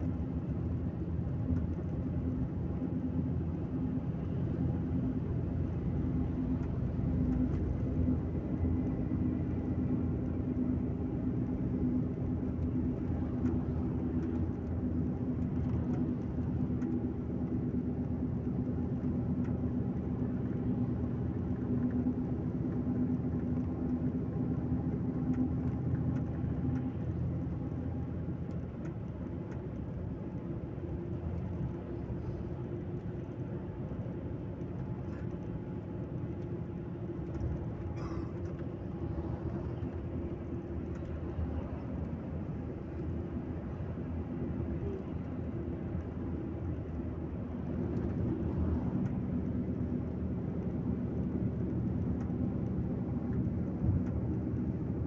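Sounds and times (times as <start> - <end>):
coach engine and road rumble: 0.0 - 55.0.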